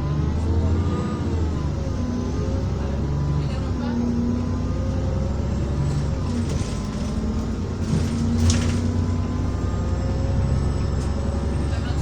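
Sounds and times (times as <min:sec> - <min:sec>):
bus droning and whining: 0:00.0 - 0:12.0
road and engine noise: 0:00.0 - 0:12.0.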